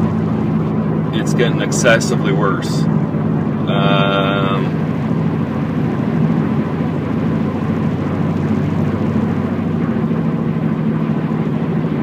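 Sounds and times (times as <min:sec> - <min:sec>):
car cabin deep drone: 0:00.0 - 0:12.0.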